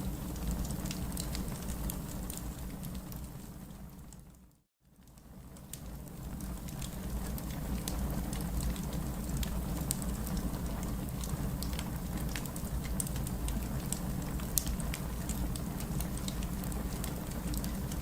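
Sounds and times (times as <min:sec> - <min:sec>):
wood fire crackling: 0:00.0 - 0:04.4, 0:05.1 - 0:18.0.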